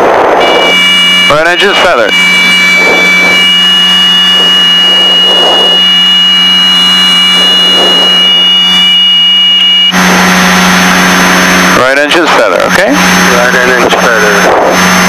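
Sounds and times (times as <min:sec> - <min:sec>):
aircraft engine drone: 0:00.0 - 0:15.0
high-pitched tone: 0:00.3 - 0:15.0.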